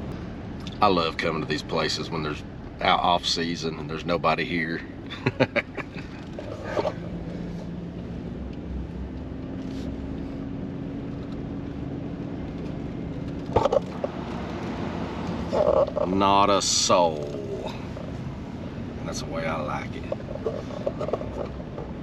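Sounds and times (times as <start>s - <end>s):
pickup engine and road hum: 0.0s - 22.0s.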